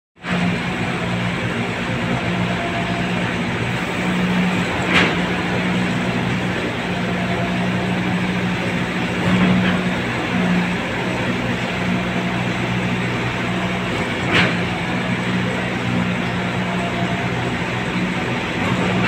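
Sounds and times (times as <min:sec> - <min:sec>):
engine droning: 0:00.2 - 0:19.0.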